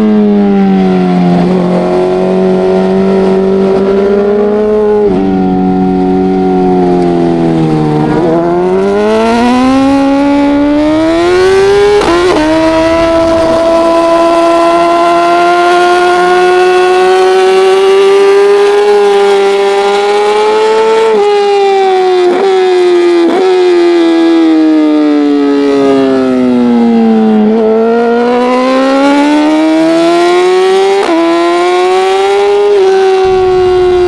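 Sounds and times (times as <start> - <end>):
racing motorcycle engine: 0.0 - 34.0.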